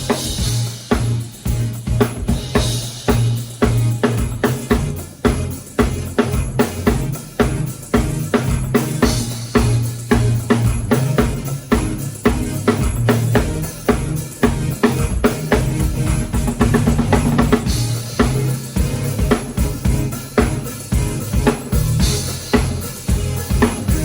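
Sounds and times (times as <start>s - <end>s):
drum kit playing a beat: 0.0s - 24.0s.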